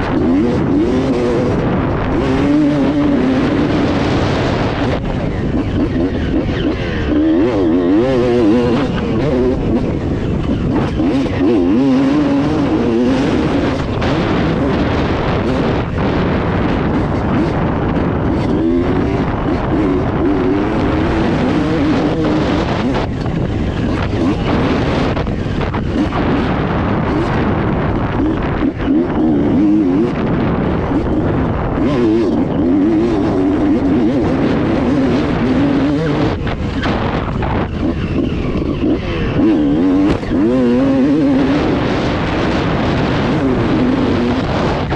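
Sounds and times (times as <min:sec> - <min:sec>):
motocross bike engine revving: 0:00.0 - 0:44.9
steady rushing noise: 0:00.0 - 0:44.9.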